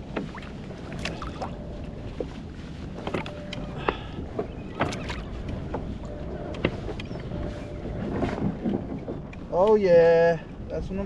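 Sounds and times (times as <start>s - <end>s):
knocks and clicks around kayak: 0.0s - 10.7s
low wind rumble on microphone: 0.0s - 11.0s.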